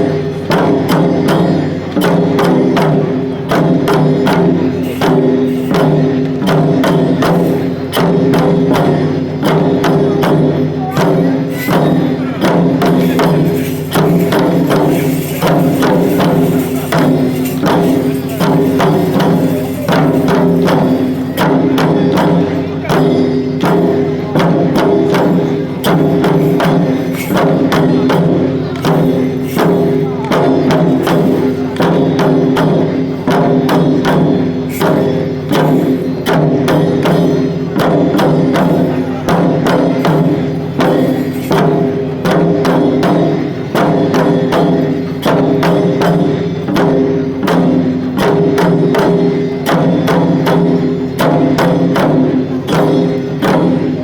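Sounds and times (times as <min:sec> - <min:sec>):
fast drumming: 0:00.0 - 0:54.0.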